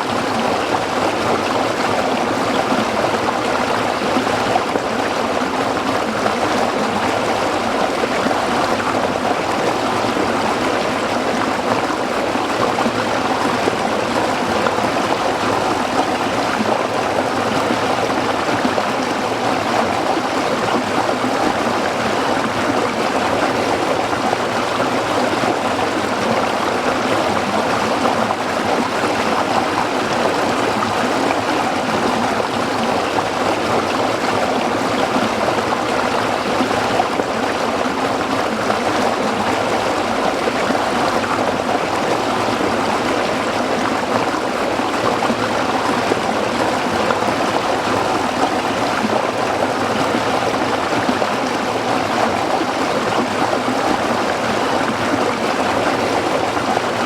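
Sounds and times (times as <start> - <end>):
stream burbling over rocks: 0.0 - 57.0.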